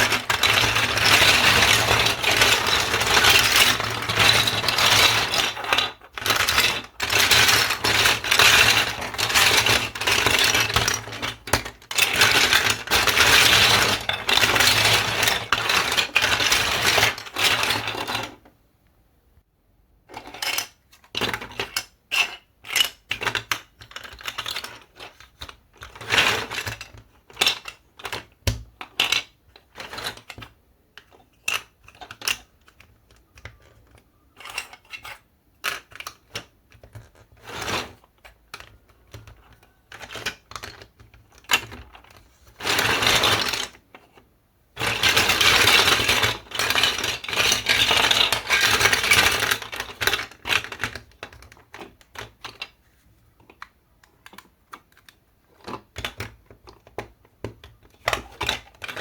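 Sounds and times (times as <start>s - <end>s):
pieces rattling: 0.0s - 18.4s, 20.1s - 44.2s, 44.8s - 52.8s, 53.4s - 59.0s
plastic pieces clicking: 0.0s - 18.5s, 20.2s - 44.2s, 44.8s - 52.8s, 53.4s - 59.0s.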